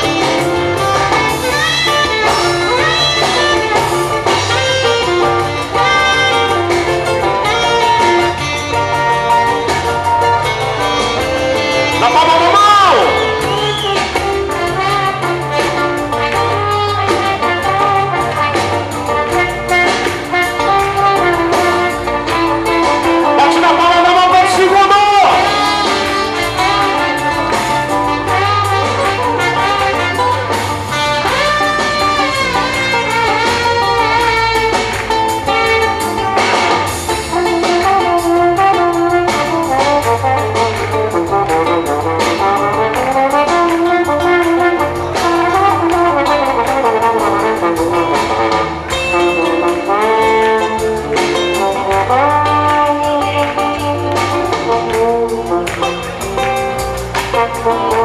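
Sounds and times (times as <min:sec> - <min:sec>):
bass line: 0:00.0 - 0:58.0
drums: 0:00.0 - 0:58.0
trombone melody with slides: 0:00.0 - 0:58.0.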